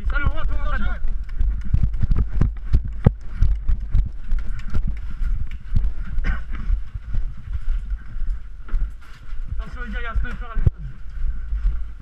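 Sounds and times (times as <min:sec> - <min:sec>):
footsteps: 0:00.0 - 0:12.0
low handling rumble on microphone: 0:00.0 - 0:12.0.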